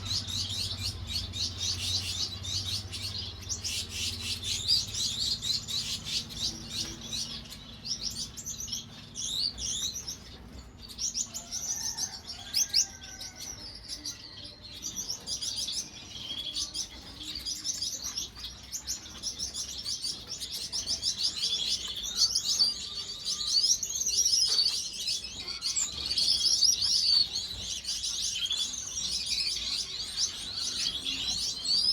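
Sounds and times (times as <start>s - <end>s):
finches chirping: 0.0s - 13.0s, 14.0s - 31.9s.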